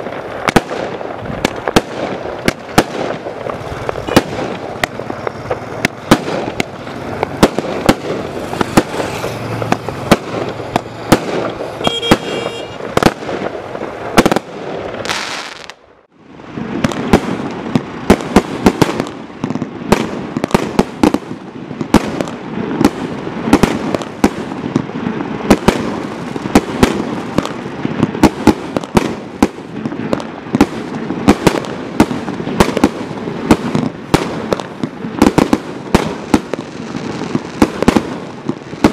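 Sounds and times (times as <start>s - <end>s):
fireworks shots and bursts: 0.0s - 38.9s.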